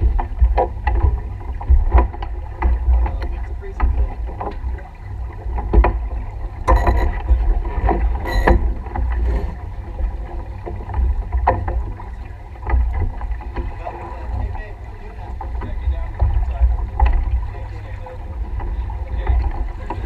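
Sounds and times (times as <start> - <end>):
water washing past hull: 0.0 - 20.0
wind buffeting microphone: 0.0 - 20.0.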